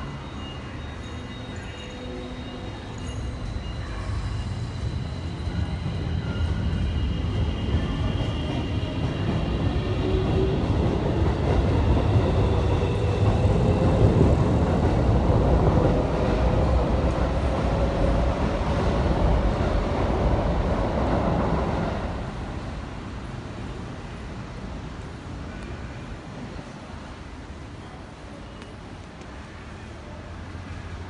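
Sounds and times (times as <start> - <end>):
train rumbling on viaduct: 0.0 - 31.0.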